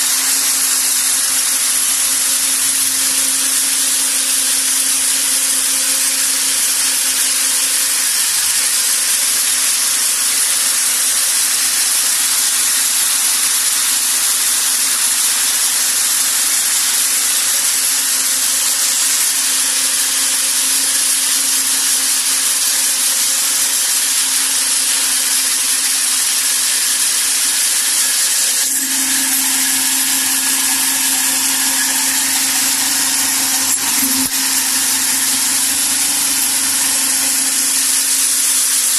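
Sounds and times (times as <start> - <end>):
bagging machine hissing and humming: 0.0 - 38.9.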